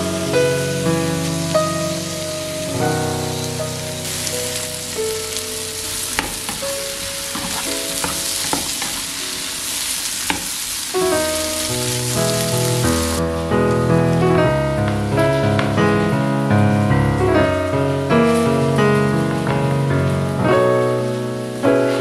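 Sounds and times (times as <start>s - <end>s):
vegetables sizzling in a pan: 0.0s - 15.8s, 17.3s - 22.0s
soft piano music: 0.0s - 22.0s.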